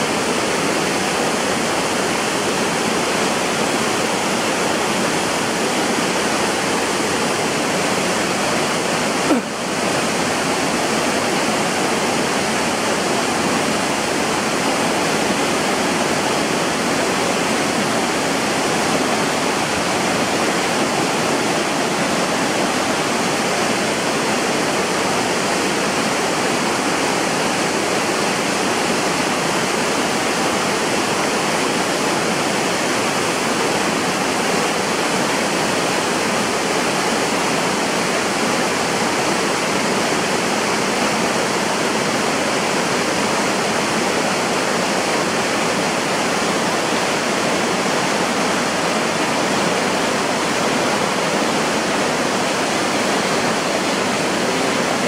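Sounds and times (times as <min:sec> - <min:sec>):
waterfall pouring: 0:00.0 - 0:55.0.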